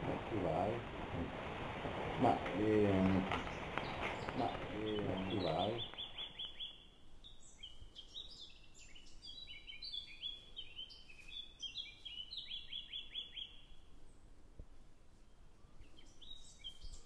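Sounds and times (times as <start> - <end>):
birds chirping: 0.0 - 14.3, 15.2 - 17.0
faint hiss: 0.0 - 17.0.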